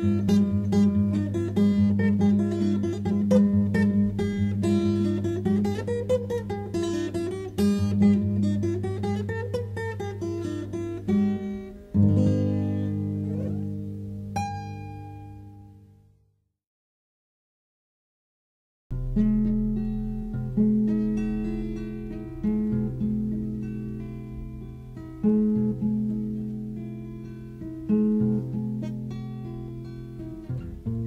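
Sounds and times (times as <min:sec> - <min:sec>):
acoustic guitar music: 0:00.0 - 0:16.2, 0:18.9 - 0:31.0.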